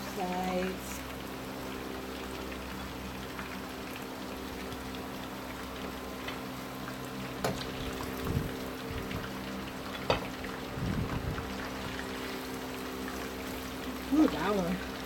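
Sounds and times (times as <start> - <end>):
fish frying in oil: 0.0 - 15.0.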